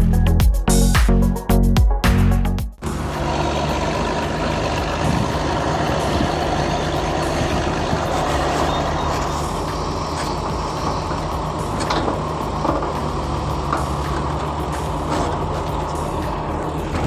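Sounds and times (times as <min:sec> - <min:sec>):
vehicle engine rumbling: 0:02.2 - 0:17.0.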